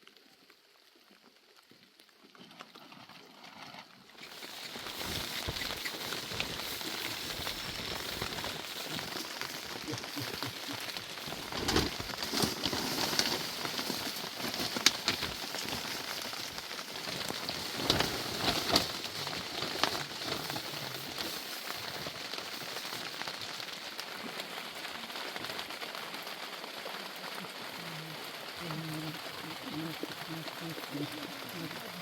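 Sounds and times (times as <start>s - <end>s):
steady rain falling: 4.2s - 32.0s.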